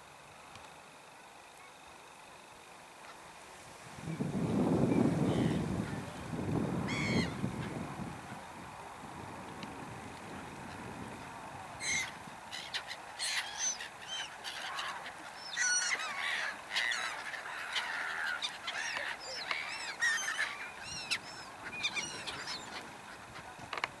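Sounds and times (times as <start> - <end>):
gulls calling: 4.0 - 24.0.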